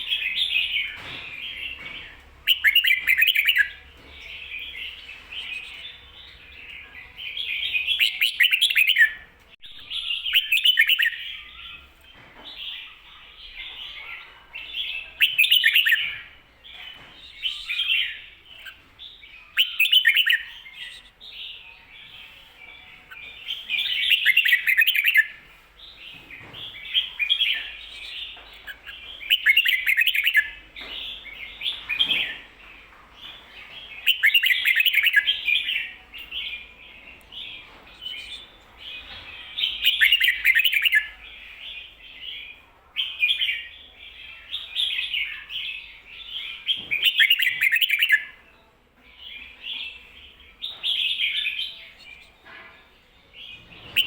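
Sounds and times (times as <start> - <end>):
bird chatter: 0.0 - 9.2, 9.8 - 48.4, 49.3 - 54.0
bulbul singing warbled phrases: 0.0 - 11.9, 12.7 - 25.4, 26.1 - 32.6, 33.4 - 48.4, 49.2 - 52.6.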